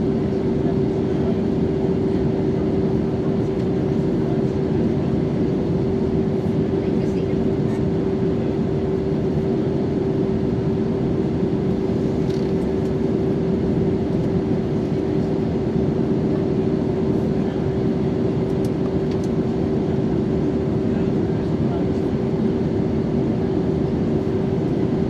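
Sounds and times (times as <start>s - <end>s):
airplane engine and air rush: 0.0s - 25.0s
constant hum tone: 0.0s - 25.0s.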